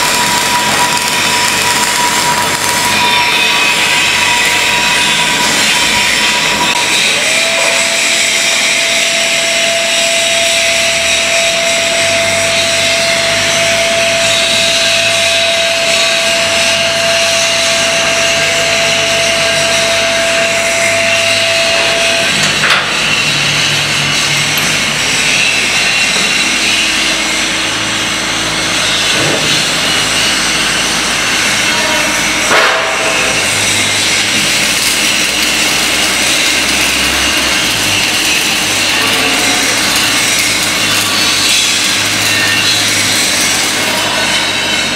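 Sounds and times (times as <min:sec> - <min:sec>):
thin steady whine: 0:00.0 - 0:44.9.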